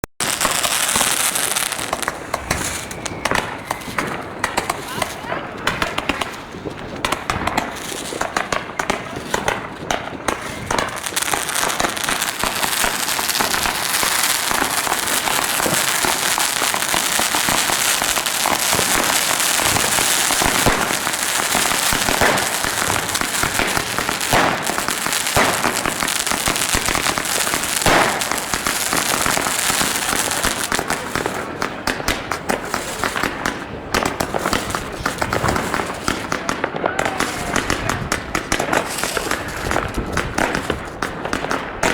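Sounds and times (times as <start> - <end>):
fireworks crackling: 0.0 - 41.9
loud fireworks cracks: 0.0 - 41.9.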